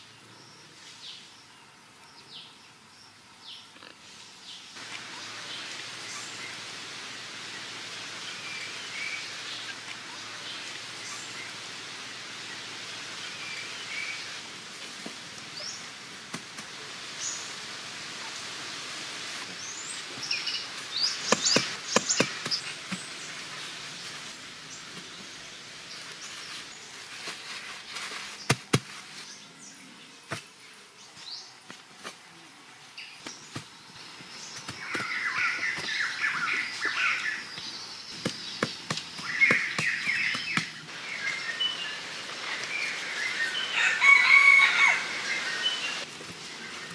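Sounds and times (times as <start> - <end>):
insects hissing: 4.0 - 31.5, 32.8 - 46.9.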